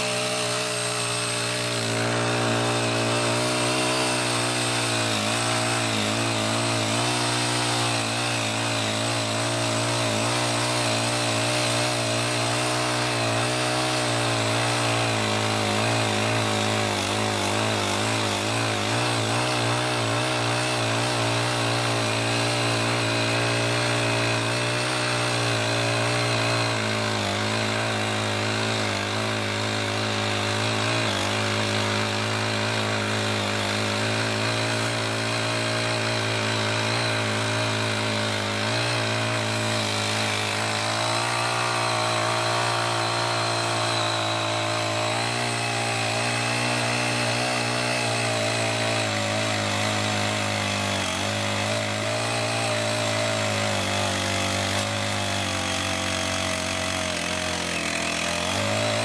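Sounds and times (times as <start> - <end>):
small tiller engine running: 0.0 - 59.0.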